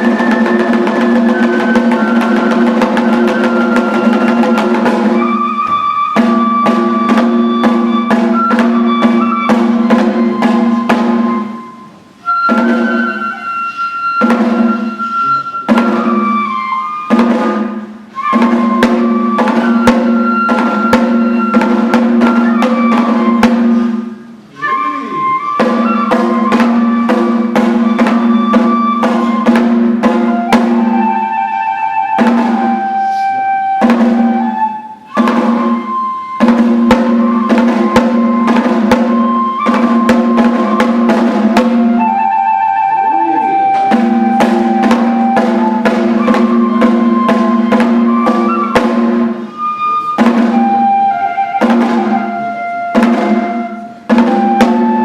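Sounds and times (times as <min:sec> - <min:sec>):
drums and percussion beat: 0:00.0 - 0:55.0
flute melody: 0:00.0 - 0:55.0.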